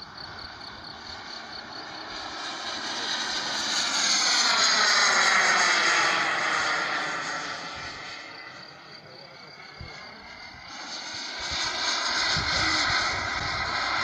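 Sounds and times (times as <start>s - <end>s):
model jet engine whine: 0.0s - 14.0s.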